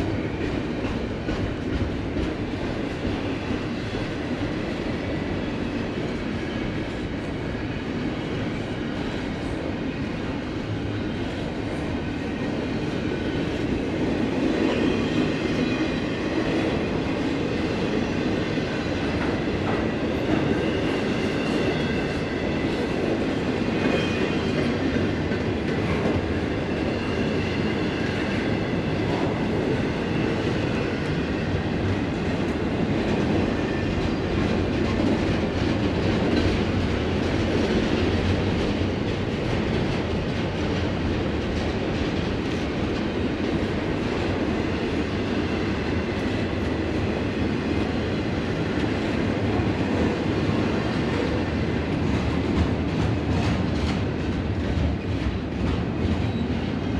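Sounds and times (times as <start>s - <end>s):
train wheels clattering on rails: 0.0s - 56.9s.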